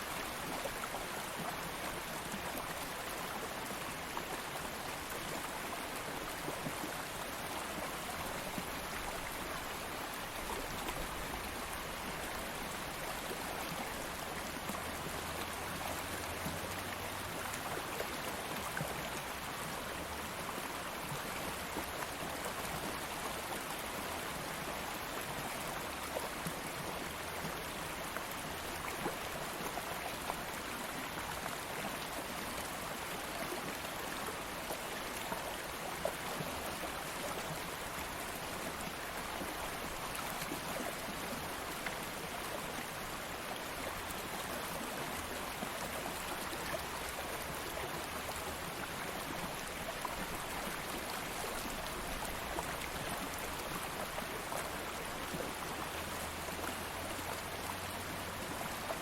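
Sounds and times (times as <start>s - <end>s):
water flowing over stones: 0.0s - 59.0s.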